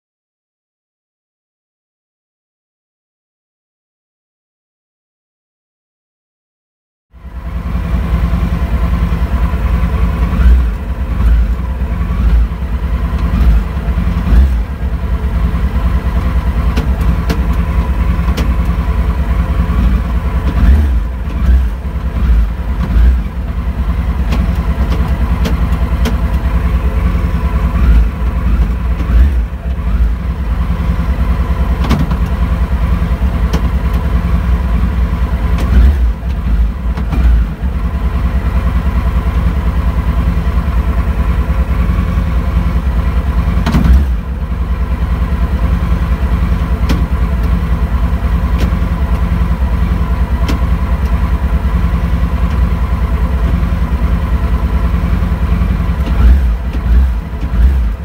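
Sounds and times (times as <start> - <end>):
engine throttle blips: 7.2 - 58.0
motorcycle engine idling: 7.2 - 58.0.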